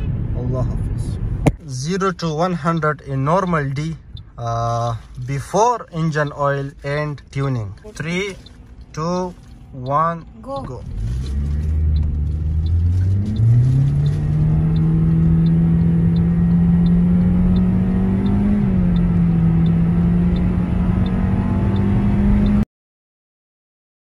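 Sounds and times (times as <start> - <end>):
car engine accelerating: 0.0 - 22.6
indicator relay ticking: 1.5 - 22.6.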